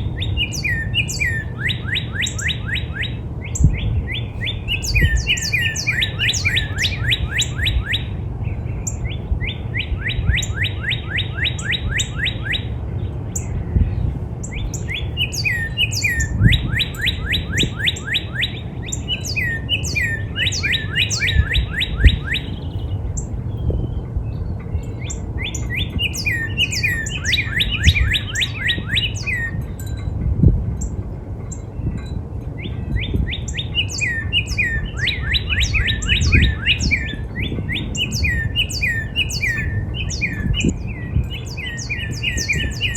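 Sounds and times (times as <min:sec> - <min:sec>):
cardinal singing whistled notes: 0:00.1 - 0:12.8, 0:14.4 - 0:30.1, 0:30.8 - 0:42.9.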